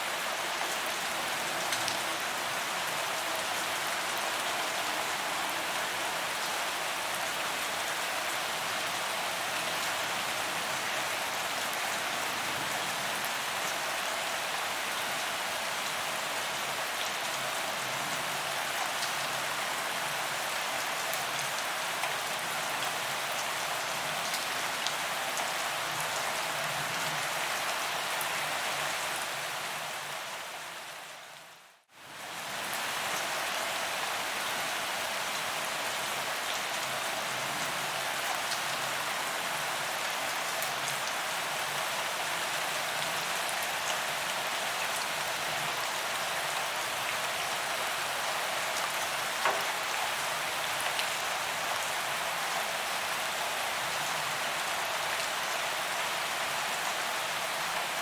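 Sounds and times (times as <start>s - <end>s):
rain on pavement: 0.0s - 30.8s, 32.0s - 58.0s.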